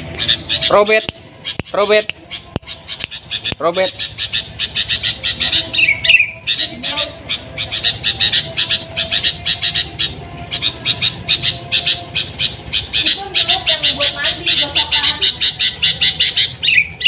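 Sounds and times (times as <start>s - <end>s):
bird calling harsh chips: 0.0s - 17.0s.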